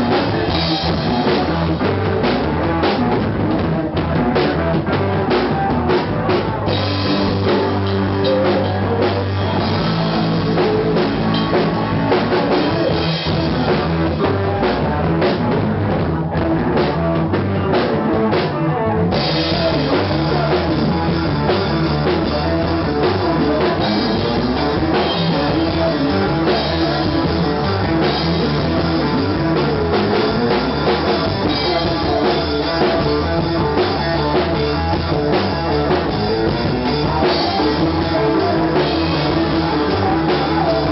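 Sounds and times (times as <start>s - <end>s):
rock band playing: 0.0s - 40.9s.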